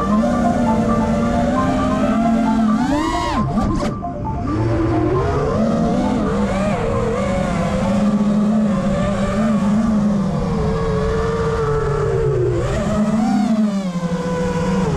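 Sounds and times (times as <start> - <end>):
quadcopter motors whining: 0.0 - 14.9.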